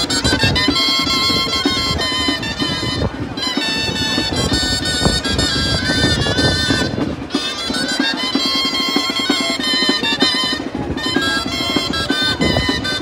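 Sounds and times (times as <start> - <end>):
shawms playing a reedy melody: 0.0 - 13.0
steady drum beat: 0.0 - 13.0.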